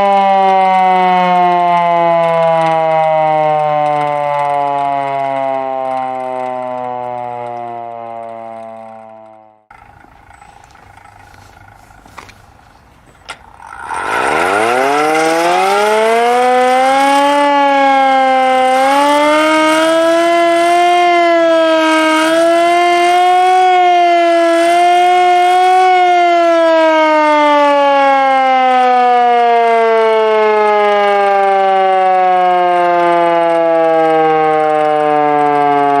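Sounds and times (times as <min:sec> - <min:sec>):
siren clicks: 0:00.0 - 0:36.0
siren wailing: 0:00.0 - 0:36.0.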